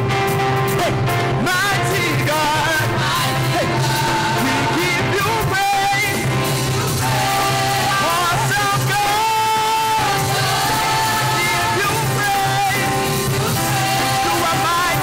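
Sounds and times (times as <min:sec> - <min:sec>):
bass line: 0:00.0 - 0:15.0
drum kit beat: 0:00.0 - 0:15.0
group of singers: 0:01.8 - 0:15.0.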